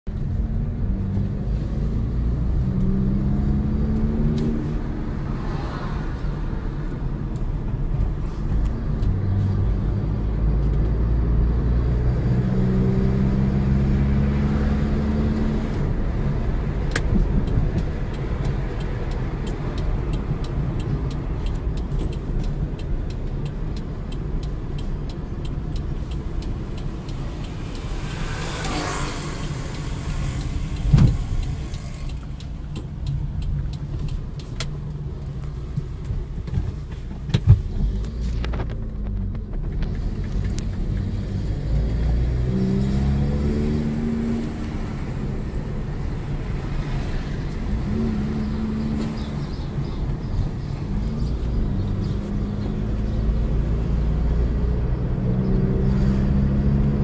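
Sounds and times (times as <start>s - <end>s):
car engine accelerating: 0.1s - 57.0s.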